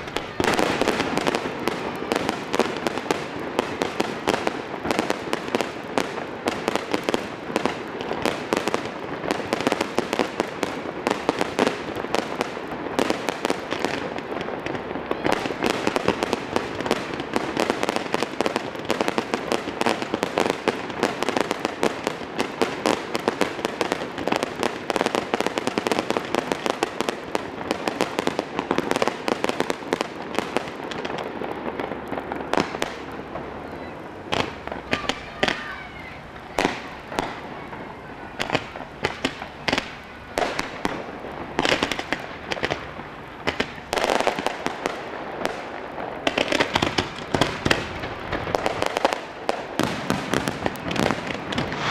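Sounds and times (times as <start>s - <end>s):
fireworks bangs: 0.0s - 51.9s.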